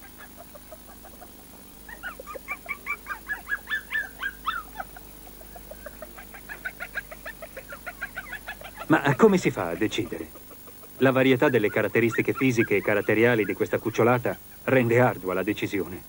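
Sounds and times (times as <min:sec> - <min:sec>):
puppies yipping and squealing: 0:00.0 - 0:14.7.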